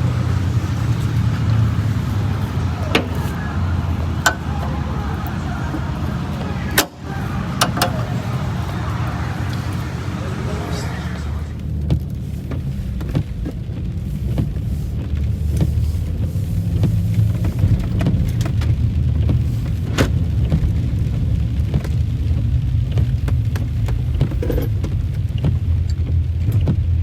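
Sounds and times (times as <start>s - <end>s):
car engine rumbling inside cabin: 0.0s - 27.0s.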